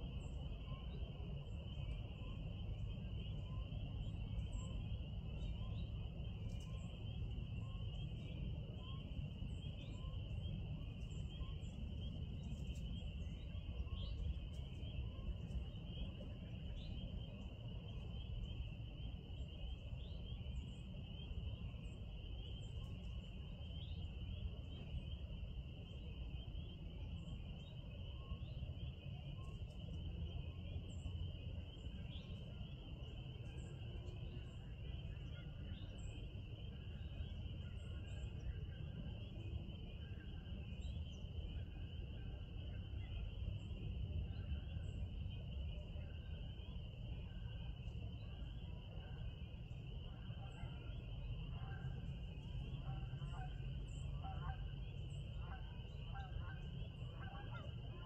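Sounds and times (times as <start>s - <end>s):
constant low rumble: 0.0s - 58.0s
faint chirps: 0.0s - 58.0s.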